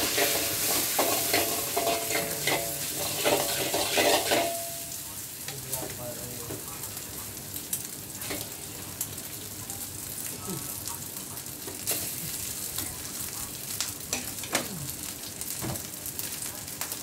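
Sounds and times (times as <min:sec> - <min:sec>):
egg sizzling in a wok: 0:00.0 - 0:17.0.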